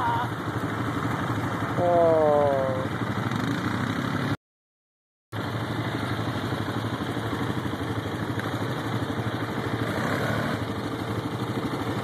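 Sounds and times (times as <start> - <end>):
atv engines running: 0.0 - 4.4, 5.4 - 12.0.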